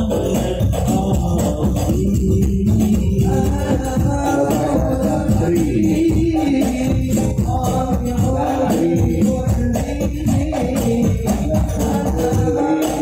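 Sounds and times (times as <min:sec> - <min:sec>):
devotional singing over loudspeakers: 0:00.0 - 0:13.0
jingling hand percussion: 0:00.0 - 0:13.0.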